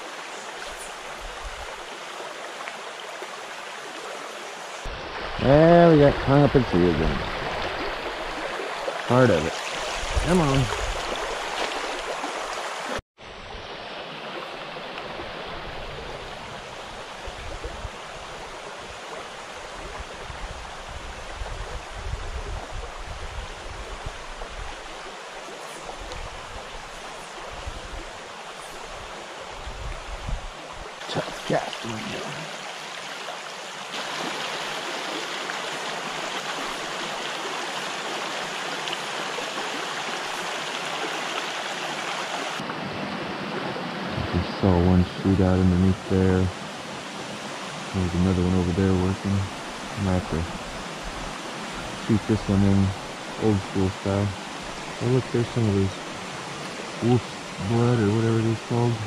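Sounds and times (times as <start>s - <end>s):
creek flowing over rocks: 0.0s - 59.0s.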